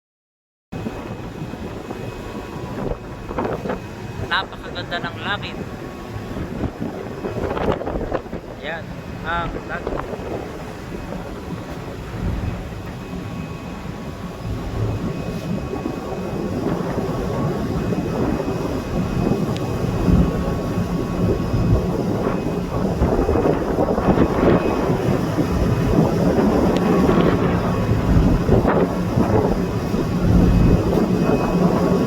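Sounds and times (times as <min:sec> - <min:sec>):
wind buffeting microphone: 0:00.8 - 0:32.0.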